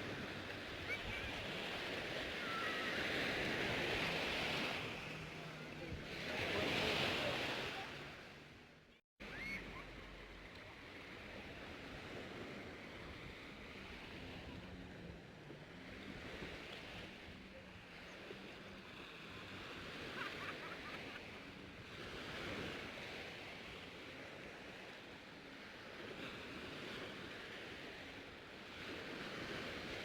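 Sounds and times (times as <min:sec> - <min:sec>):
sea surf washing on shore: 0:00.0 - 0:08.4, 0:09.2 - 0:30.0.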